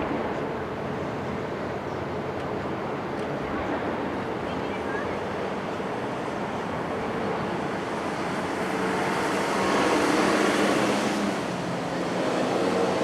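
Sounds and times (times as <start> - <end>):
steady traffic: 0.0 - 13.0.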